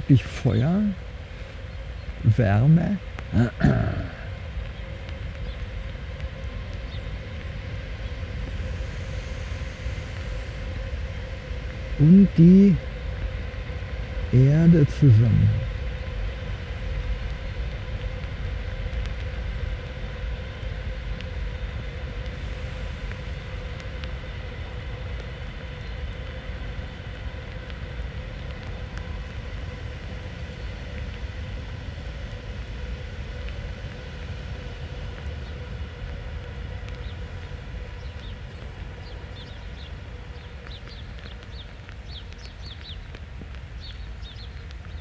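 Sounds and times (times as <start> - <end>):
faint steady hum: 0.0 - 45.0
low outdoor rumble: 0.0 - 45.0.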